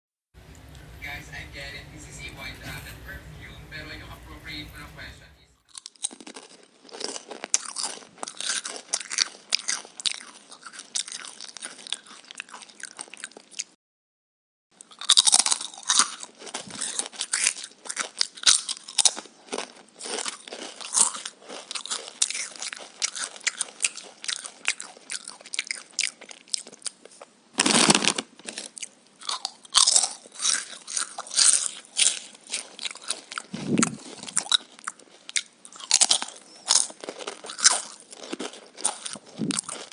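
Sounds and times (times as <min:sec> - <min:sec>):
crunching crisp vegetables: 0:00.4 - 0:13.7, 0:14.8 - 0:39.9.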